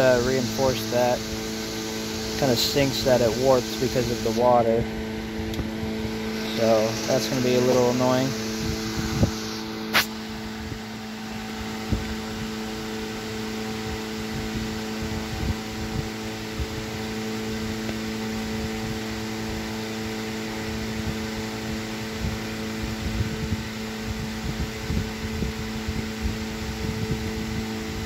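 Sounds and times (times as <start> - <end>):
electric fan running: 0.0 - 28.0.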